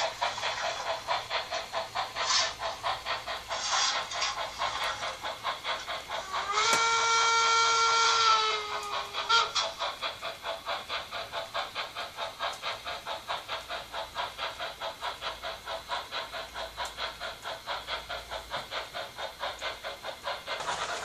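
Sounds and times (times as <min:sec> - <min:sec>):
steam locomotive chuffing: 0:00.0 - 0:21.0.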